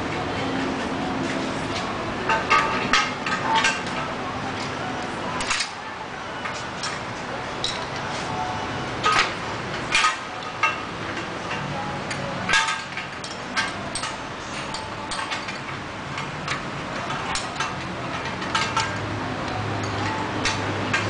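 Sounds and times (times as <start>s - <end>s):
wrench clinking on metal parts: 1.7s - 21.0s.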